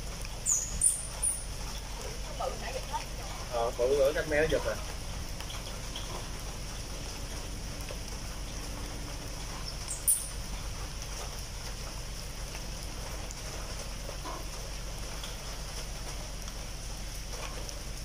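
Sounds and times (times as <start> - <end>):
light rain on wet pavement: 0.0 - 18.0.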